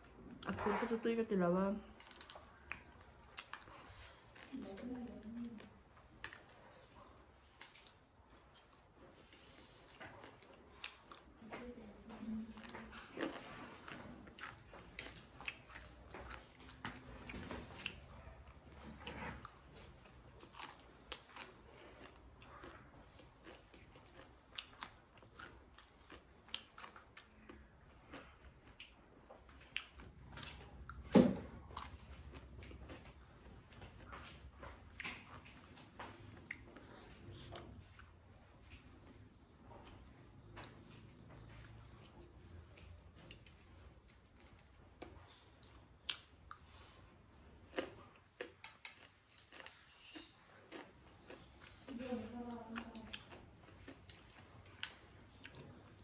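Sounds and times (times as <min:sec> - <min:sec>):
quiet eating sounds: 0:00.0 - 0:56.0
person chewing food: 0:01.8 - 0:56.0.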